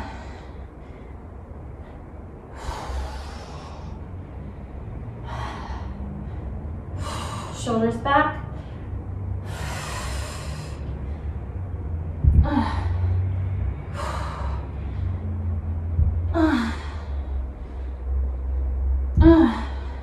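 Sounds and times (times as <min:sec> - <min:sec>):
woman breathing hard: 0:00.0 - 0:07.7, 0:08.4 - 0:20.0.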